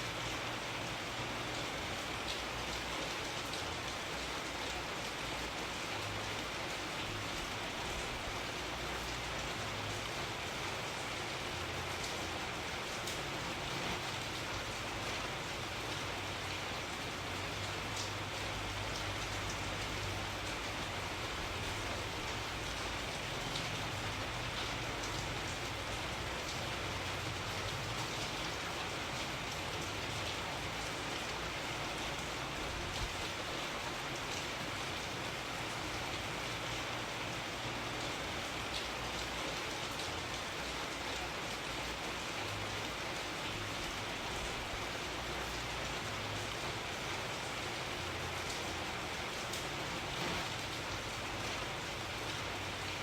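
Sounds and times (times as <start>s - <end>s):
rain pattering on a surface: 0.0s - 53.0s.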